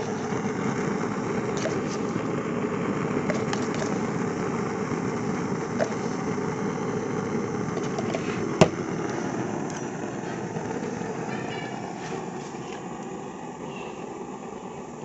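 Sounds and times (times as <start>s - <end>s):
gas burner flame rushing: 0.0s - 15.0s.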